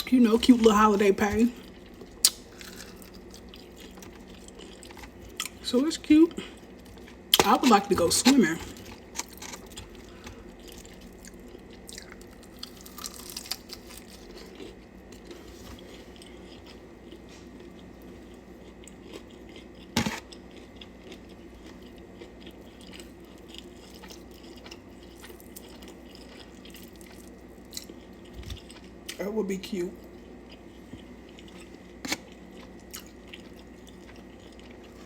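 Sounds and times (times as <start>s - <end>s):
person chewing crunchy food: 0.0s - 5.6s, 6.3s - 29.2s, 30.0s - 35.0s
faint steady hum: 0.0s - 35.0s.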